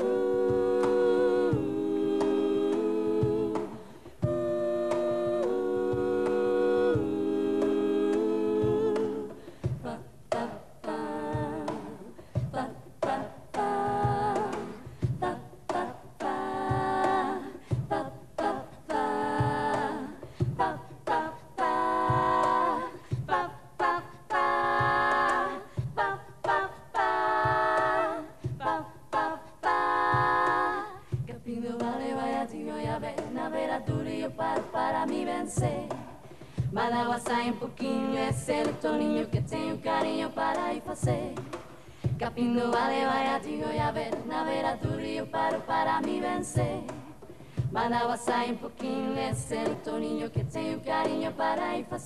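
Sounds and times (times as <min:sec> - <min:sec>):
a cappella group singing: 0:00.0 - 0:52.0.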